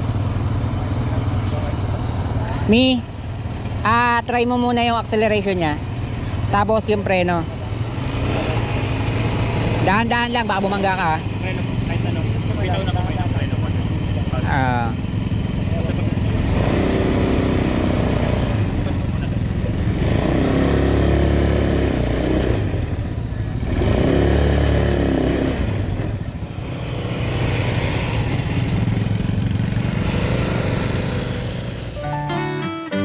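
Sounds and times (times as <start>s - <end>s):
atv engines revving: 0.0s - 32.0s.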